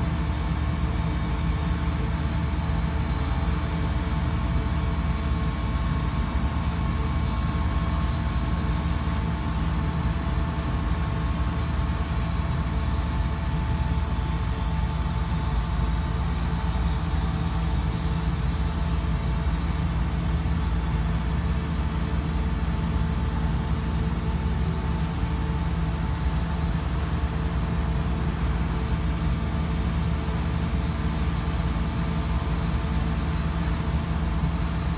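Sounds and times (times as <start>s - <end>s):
machine engine running steadily: 0.0s - 34.9s.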